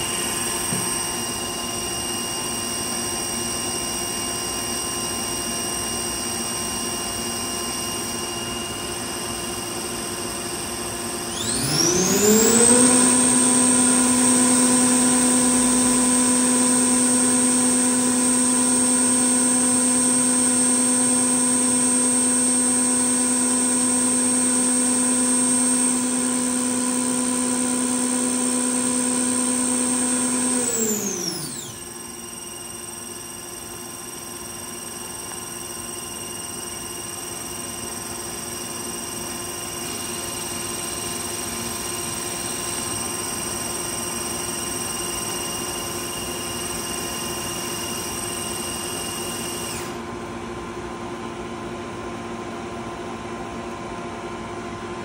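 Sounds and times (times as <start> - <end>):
lathe spindle high whine: 0.0 - 50.4
machine humming with tones: 0.0 - 50.4.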